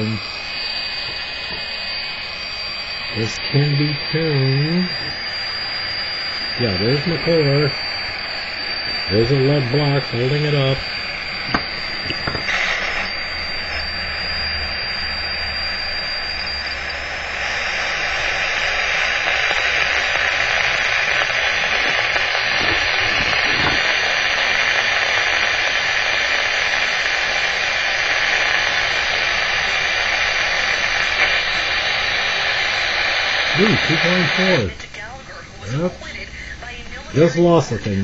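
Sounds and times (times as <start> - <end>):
detector alarm high tone: 0.0 - 34.8
static-like hiss: 0.0 - 38.0.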